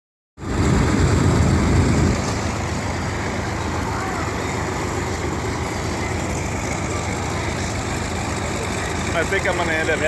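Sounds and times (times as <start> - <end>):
radial piston engine rumble: 0.4 - 10.0.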